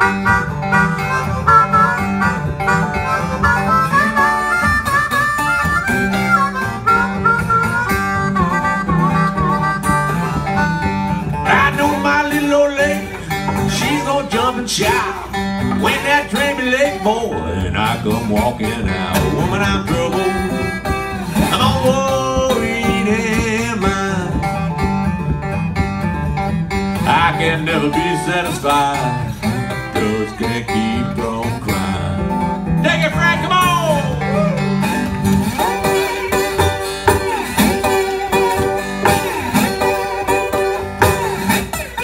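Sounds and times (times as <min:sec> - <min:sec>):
slide acoustic guitar blues: 0:00.0 - 0:42.0.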